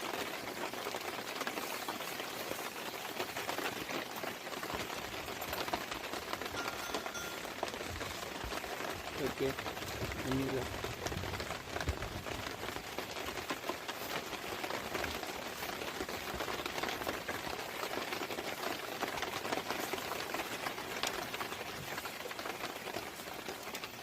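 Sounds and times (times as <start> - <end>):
rain pattering on a surface: 0.0 - 24.0.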